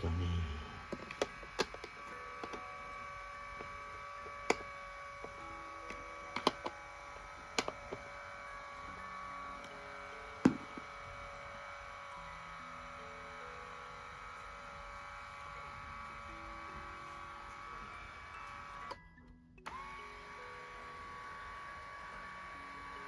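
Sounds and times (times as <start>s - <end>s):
massage motor humming: 0.0s - 19.0s, 19.6s - 23.0s.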